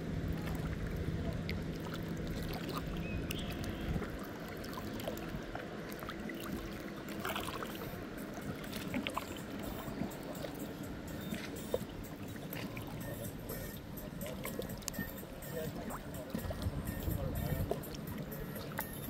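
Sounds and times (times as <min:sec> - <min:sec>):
low hum: 0:00.0 - 0:19.0
water sloshing and lapping: 0:00.0 - 0:19.0.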